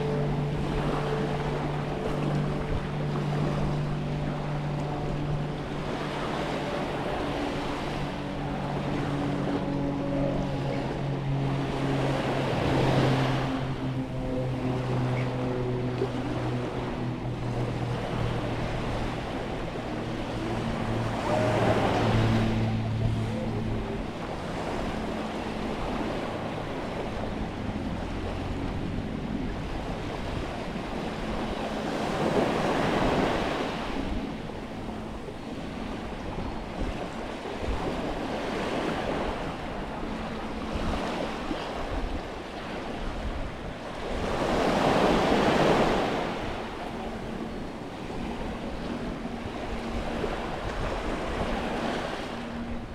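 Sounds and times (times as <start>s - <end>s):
low engine hum: 0.0s - 52.9s
waves breaking on beach: 0.0s - 52.9s
wind on microphone: 0.0s - 52.9s.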